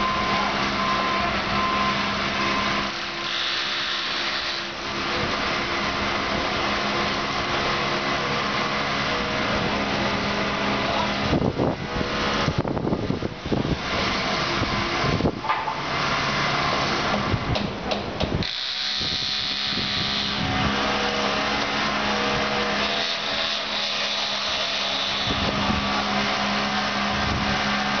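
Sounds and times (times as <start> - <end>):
high whine: 0.0 - 17.5, 18.4 - 28.0.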